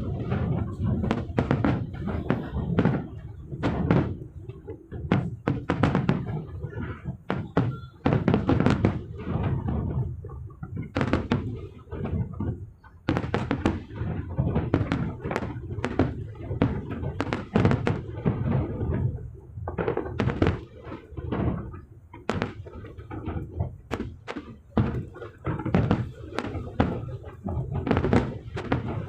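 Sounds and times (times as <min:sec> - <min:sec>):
fireworks bangs: 0:00.0 - 0:29.0
low rumble of booms: 0:00.0 - 0:29.0.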